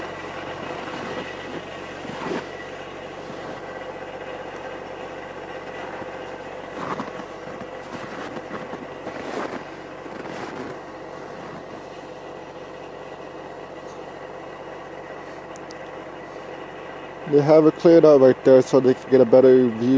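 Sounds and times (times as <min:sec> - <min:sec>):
snowmobile engine running: 0:00.0 - 0:19.9.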